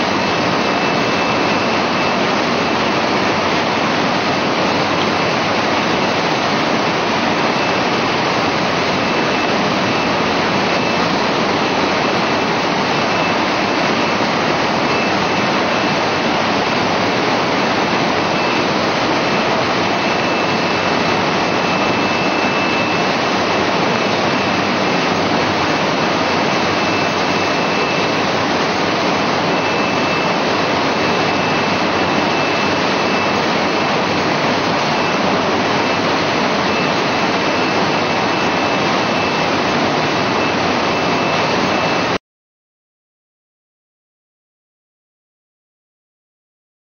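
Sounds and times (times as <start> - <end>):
processing machinery din: 0.0 - 42.2.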